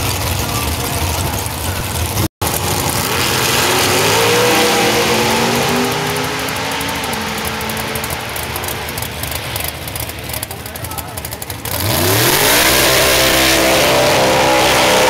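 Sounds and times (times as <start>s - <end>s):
drag racing car engine: 0.0s - 15.0s.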